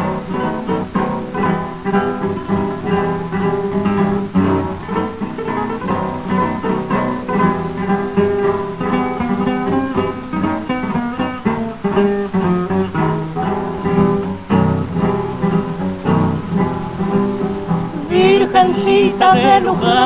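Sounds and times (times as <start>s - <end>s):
acoustic guitars playing: 0.0s - 20.0s.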